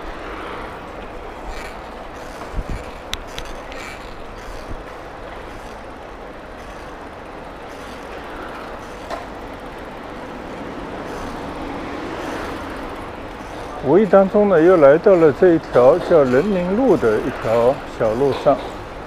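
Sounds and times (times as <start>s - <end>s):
bicycle riding noise: 0.0s - 19.0s
street traffic rumble: 0.0s - 19.0s.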